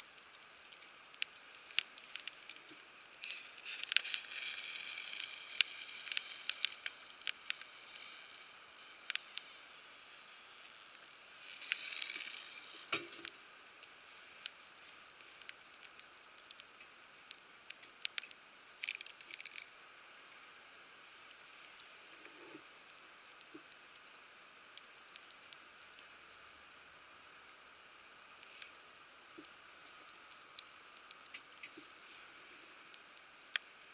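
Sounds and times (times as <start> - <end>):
wood fire crackling and popping: 0.0 - 19.9, 21.2 - 26.5, 27.2 - 33.9.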